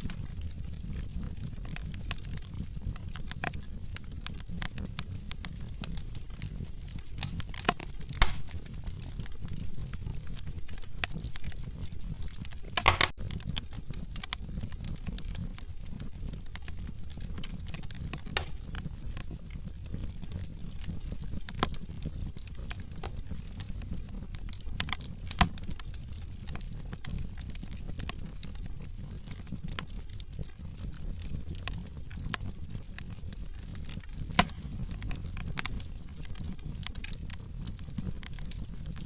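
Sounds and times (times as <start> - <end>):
fire popping: 0.0 - 39.0
logs crackling in fireplace: 0.0 - 39.0
low fire rumble: 0.0 - 39.0.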